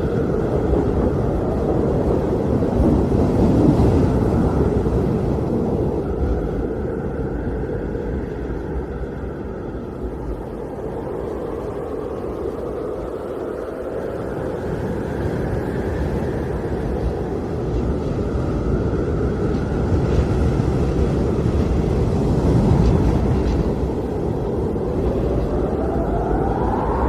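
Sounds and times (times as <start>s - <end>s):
blizzard wind rushing: 0.0s - 27.0s
faint howling tone: 0.0s - 27.0s.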